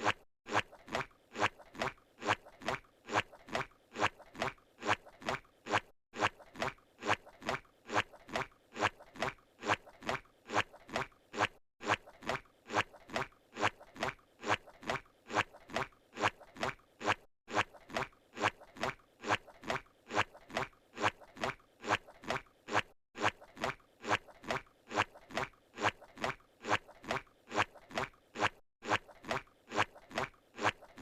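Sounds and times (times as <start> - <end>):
squishy cartoon footsteps: 0.0 - 31.0.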